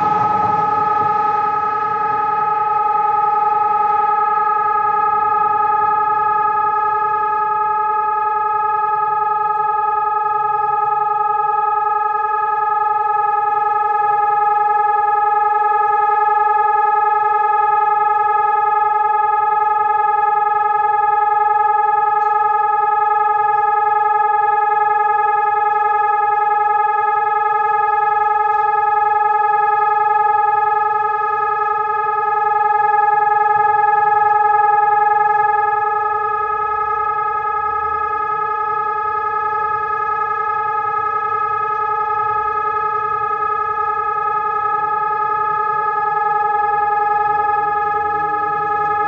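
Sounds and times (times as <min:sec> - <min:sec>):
electronic siren steady tone: 0:00.0 - 0:49.0.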